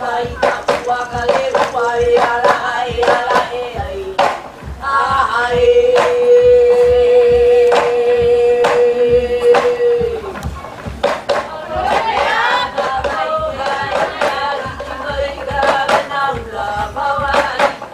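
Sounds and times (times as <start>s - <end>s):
steady drumbeat: 0.0s - 17.9s.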